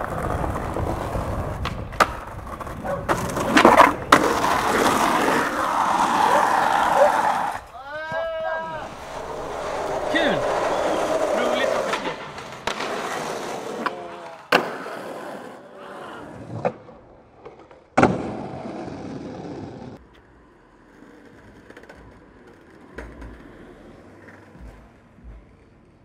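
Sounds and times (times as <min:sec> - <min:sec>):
skateboard slapping the ground: 0:00.0 - 0:26.0
skateboard wheels rolling on asphalt: 0:00.0 - 0:26.0.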